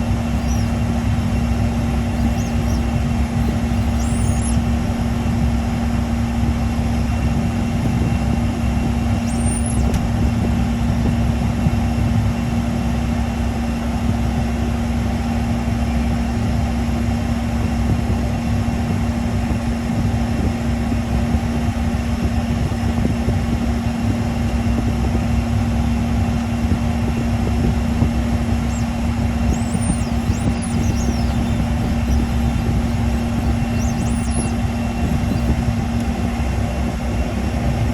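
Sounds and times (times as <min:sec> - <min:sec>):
jet engines droning: 0:00.0 - 0:17.9, 0:20.6 - 0:37.9.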